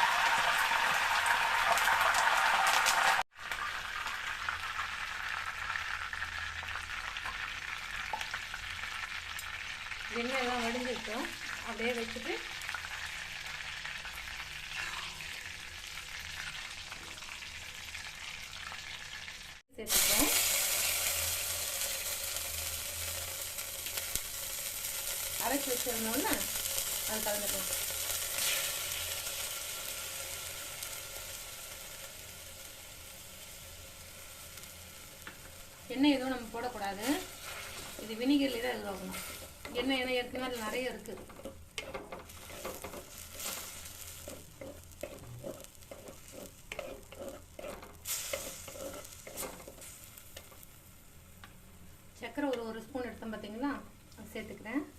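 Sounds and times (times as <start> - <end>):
food sizzling in hot oil: 0.0 - 54.9.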